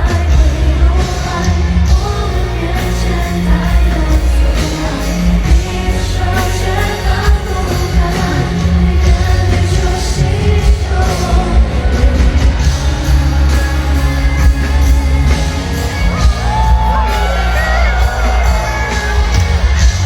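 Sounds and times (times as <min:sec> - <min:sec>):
live pop concert music: 0:00.0 - 0:20.0.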